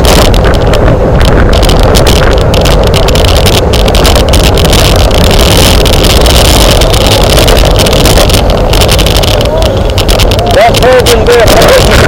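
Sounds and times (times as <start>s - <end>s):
rapid rattling clicks: 0.0s - 12.0s
wind buffeting microphone: 0.0s - 12.0s.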